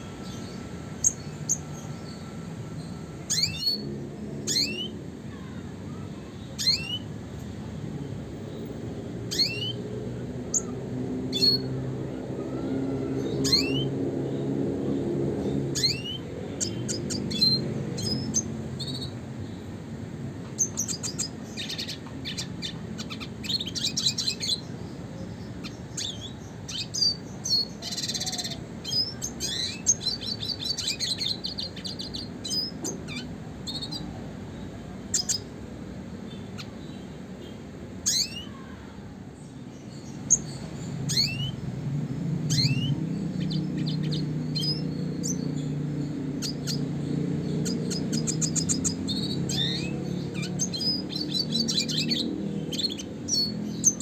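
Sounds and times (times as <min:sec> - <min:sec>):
bird chirping and trilling: 0:00.0 - 0:07.2, 0:08.0 - 0:19.7, 0:20.4 - 0:54.0.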